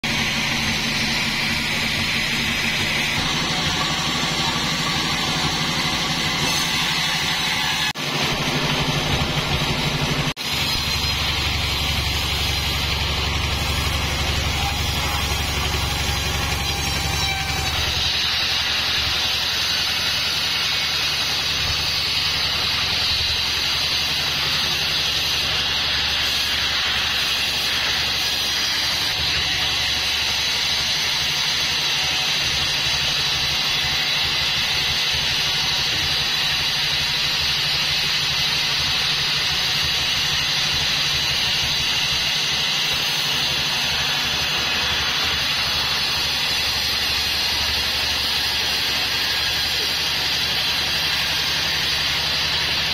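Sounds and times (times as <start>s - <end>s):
band saw blade cutting log: 0.0s - 52.9s.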